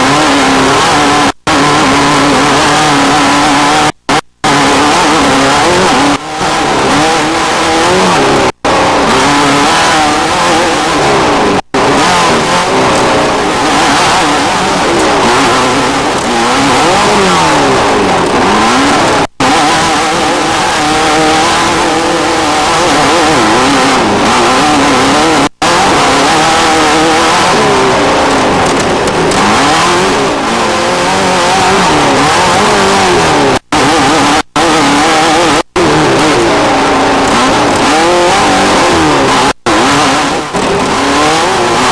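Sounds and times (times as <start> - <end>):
race vehicle engines revving: 0.0 - 41.9.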